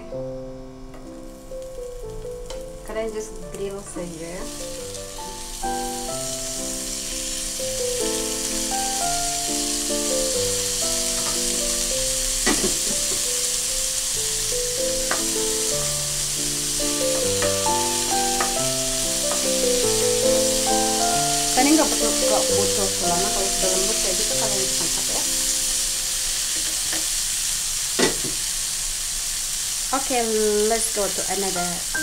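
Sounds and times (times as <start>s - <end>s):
background music: 0.0s - 26.0s
asparagus sizzling in a frying pan: 0.6s - 32.0s.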